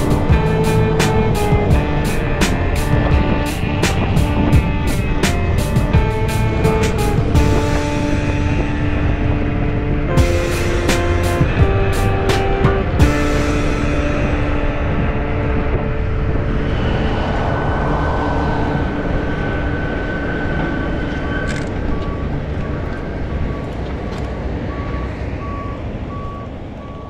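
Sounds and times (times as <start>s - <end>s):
wind noise: 0.0s - 26.6s
road traffic: 0.0s - 27.0s.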